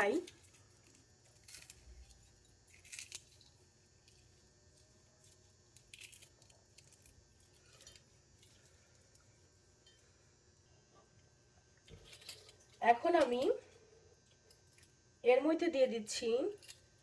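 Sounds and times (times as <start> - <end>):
faint kitchen crackles and clicks: 0.0 - 17.0.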